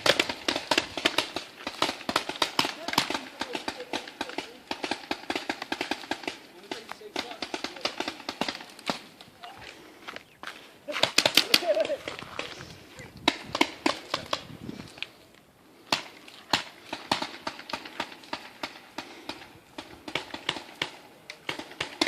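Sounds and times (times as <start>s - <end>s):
paintball markers firing: 0.0s - 9.3s, 10.9s - 12.6s, 13.2s - 15.2s, 15.9s - 22.0s.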